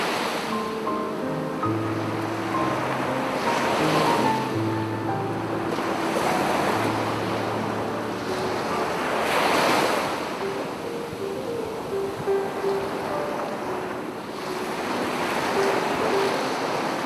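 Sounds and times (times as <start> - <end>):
sea waves washing onto beach: 0.0 - 17.0
soft piano notes: 0.0 - 17.0.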